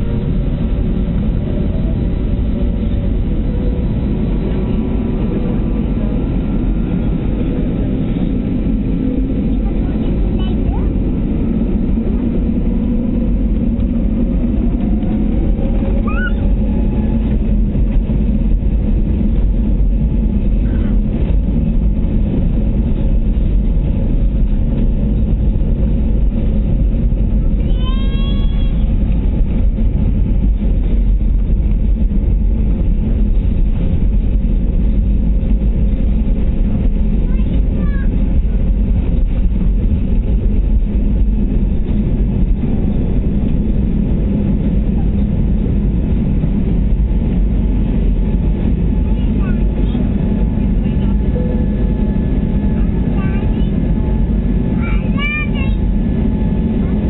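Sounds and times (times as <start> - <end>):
jet engine deep rumble: 0.0 - 57.0.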